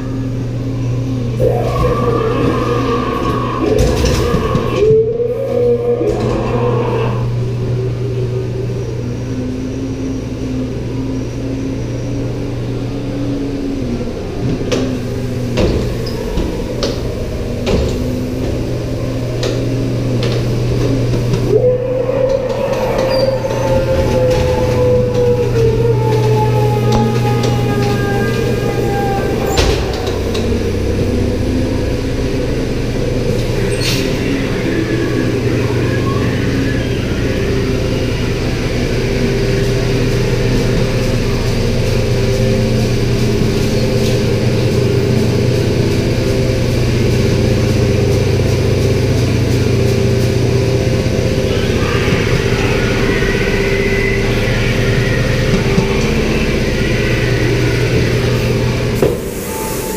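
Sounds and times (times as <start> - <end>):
ride car mechanical hum: 0.0 - 59.9.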